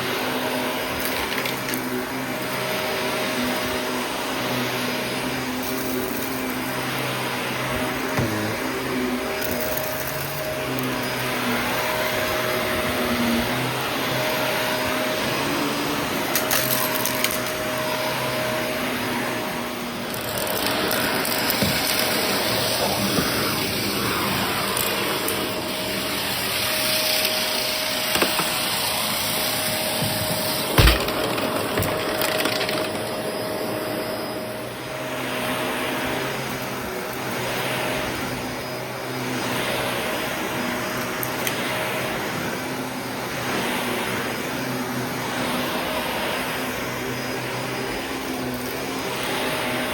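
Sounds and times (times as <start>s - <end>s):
vacuum cleaner whining: 0.0s - 49.9s.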